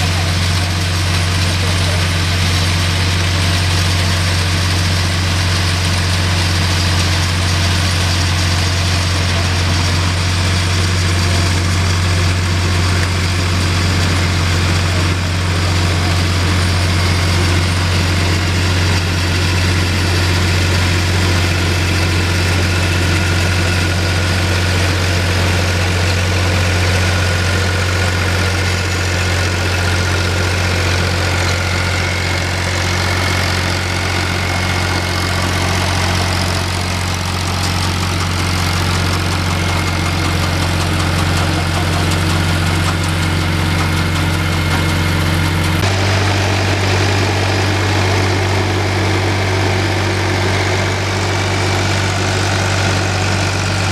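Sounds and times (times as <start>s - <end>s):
harvester engine humming: 0.0s - 53.9s
machinery noise: 0.0s - 53.9s.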